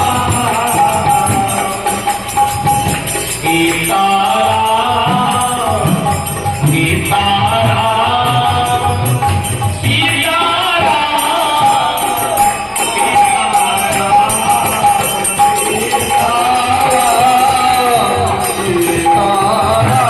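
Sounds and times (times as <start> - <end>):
harmonium melody: 0.0 - 20.0
jingling hand percussion: 0.0 - 20.0.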